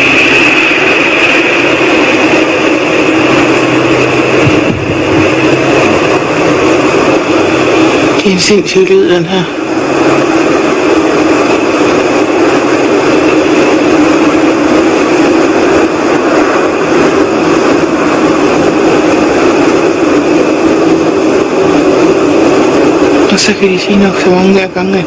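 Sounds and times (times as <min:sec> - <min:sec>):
whooshing rumbling noise: 0:00.0 - 0:24.1
constant low drone: 0:00.0 - 0:25.0.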